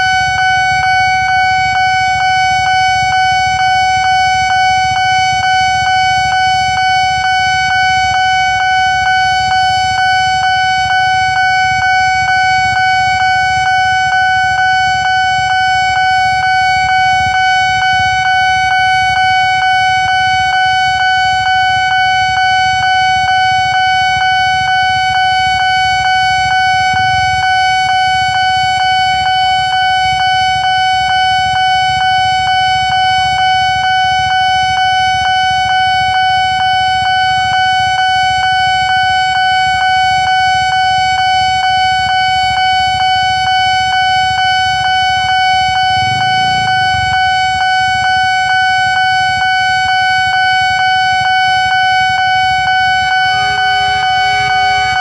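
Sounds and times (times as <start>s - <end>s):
level-crossing alarm tone: 0.0s - 55.0s.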